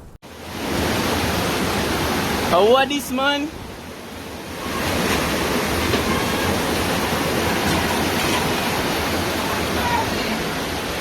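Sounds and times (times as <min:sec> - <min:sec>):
rushing floodwater: 0:00.2 - 0:11.0.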